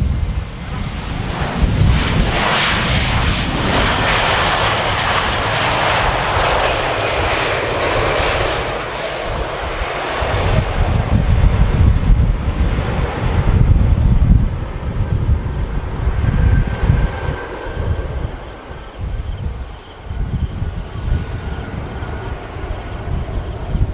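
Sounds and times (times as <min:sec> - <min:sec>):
jet engines rushing: 0:00.0 - 0:23.9
wind buffeting microphone: 0:00.0 - 0:23.9.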